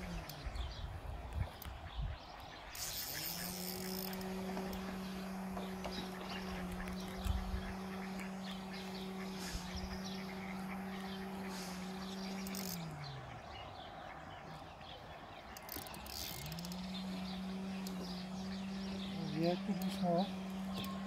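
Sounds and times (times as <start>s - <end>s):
birds chirping: 0.0s - 21.0s
motor humming: 0.0s - 21.0s.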